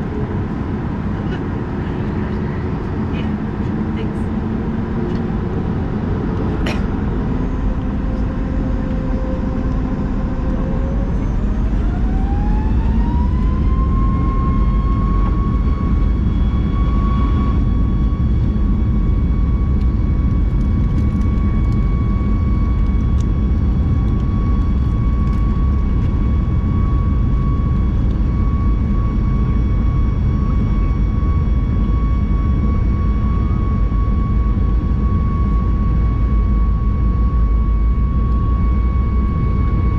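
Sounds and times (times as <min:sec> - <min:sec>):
jet engines spooling up: 0:00.4 - 0:33.1.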